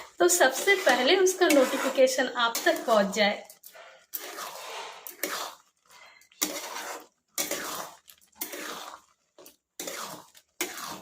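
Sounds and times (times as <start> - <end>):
spatula scraping a pan: 0.0 - 11.0.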